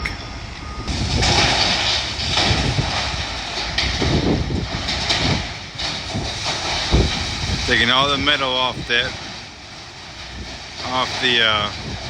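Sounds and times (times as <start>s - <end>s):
outdoor rumble: 0.0s - 12.0s
wind buffeting microphone: 0.0s - 12.0s.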